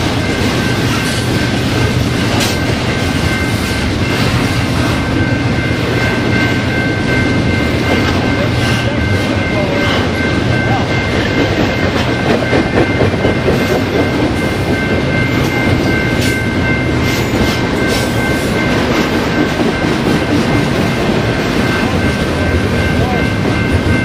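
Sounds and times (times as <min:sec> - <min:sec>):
high-pitched ringing: 0:00.0 - 0:24.0
train wheels rumbling on rails: 0:00.0 - 0:24.0.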